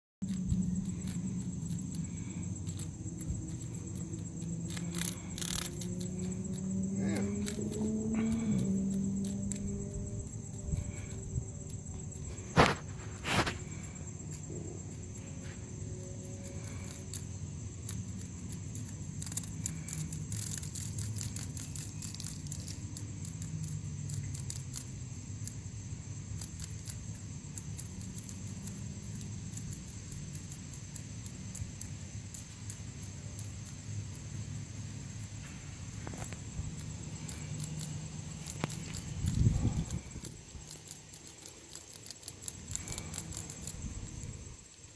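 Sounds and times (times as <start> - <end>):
insect chorus trilling: 0.2 - 44.9
low steady hum: 0.2 - 44.9.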